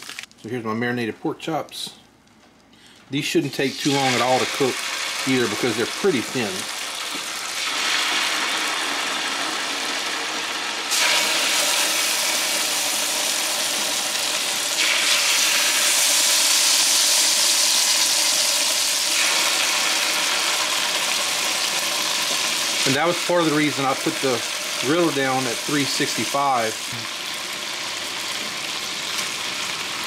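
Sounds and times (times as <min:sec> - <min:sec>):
meat sizzling on a griddle: 0:03.8 - 0:30.0.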